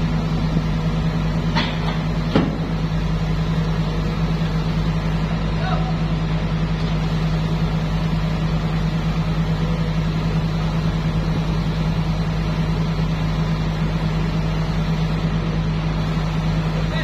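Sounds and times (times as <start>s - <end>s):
heavy engine humming steadily: 0.0s - 17.0s.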